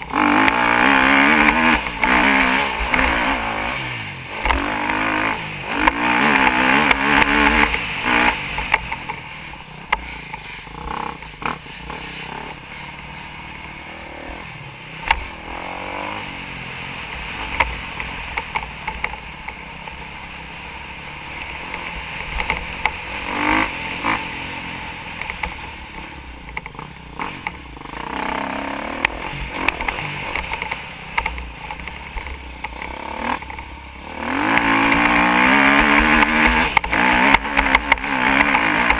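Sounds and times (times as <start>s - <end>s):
motocross bike engine revving: 0.0s - 38.9s
steady rushing noise: 0.0s - 38.9s.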